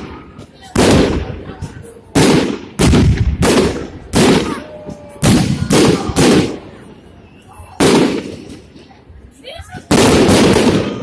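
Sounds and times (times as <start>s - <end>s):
fireworks bangs with rumbling echo: 0.0s - 7.0s, 7.7s - 8.9s, 9.6s - 11.0s.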